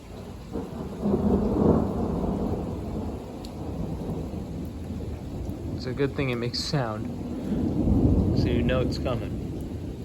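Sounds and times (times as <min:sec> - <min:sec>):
rain falling: 0:00.0 - 0:10.0
thunder rumbling: 0:00.0 - 0:10.0.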